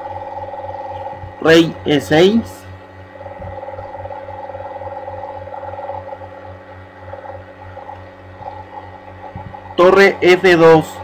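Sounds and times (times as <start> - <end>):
low pulsing hum of held tones: 0.0 - 11.0.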